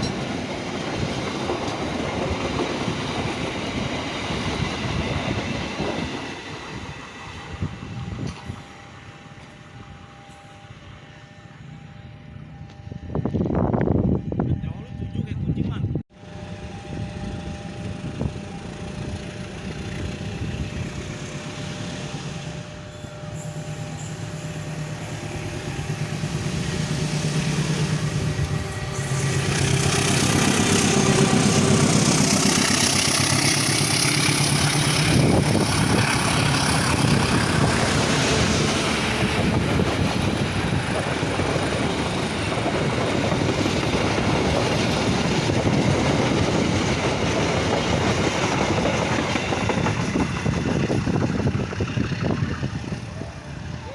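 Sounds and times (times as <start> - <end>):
passenger train passing: 0.0 - 53.9.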